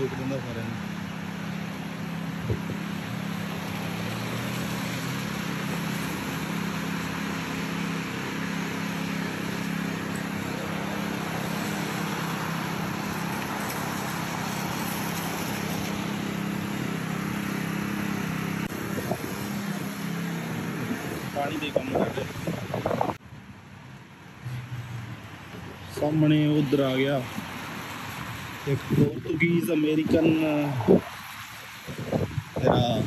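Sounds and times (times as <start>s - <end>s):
traffic engine hum: 0.0s - 33.0s
wet road hiss: 0.0s - 33.0s.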